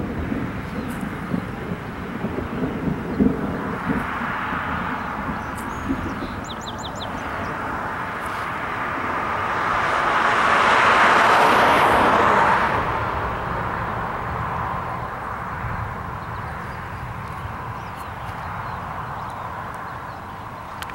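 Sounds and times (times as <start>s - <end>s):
car passing: 0.0s - 20.9s.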